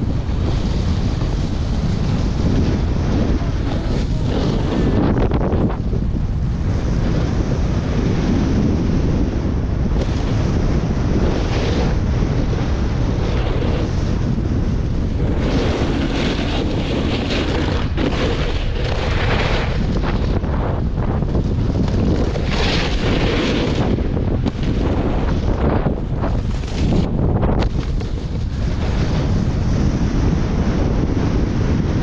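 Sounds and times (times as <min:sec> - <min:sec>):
snowboard scraping packed snow: 0:00.0 - 0:32.0
wind roaring over microphone: 0:00.0 - 0:32.0.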